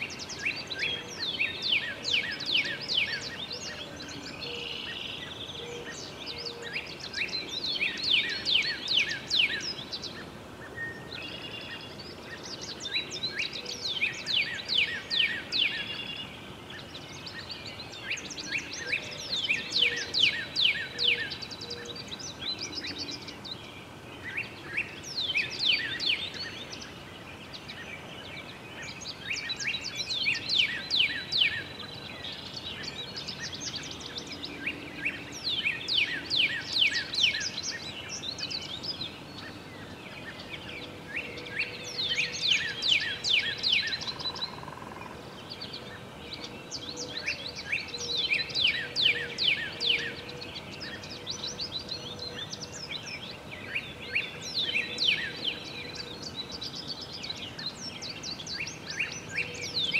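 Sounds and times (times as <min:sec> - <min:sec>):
songbird singing: 0:00.0 - 0:59.9
steady background hiss: 0:00.0 - 0:59.9.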